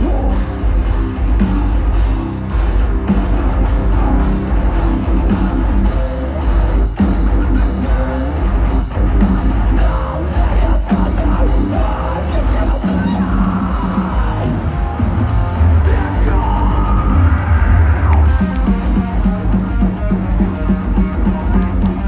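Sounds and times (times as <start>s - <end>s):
metal band playing live: 0.0s - 22.0s.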